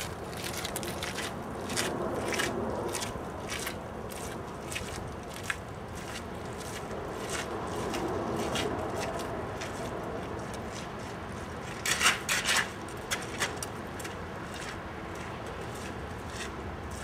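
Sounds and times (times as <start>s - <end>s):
footsteps on wet pavement: 0.0s - 17.0s.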